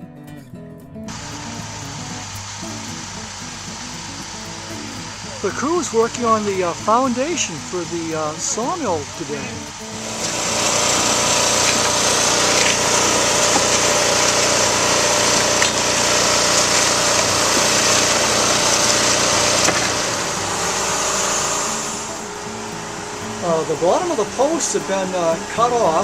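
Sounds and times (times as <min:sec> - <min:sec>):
loud hissing machine noise: 0:01.1 - 0:26.0
small petrol engine running: 0:01.1 - 0:26.0.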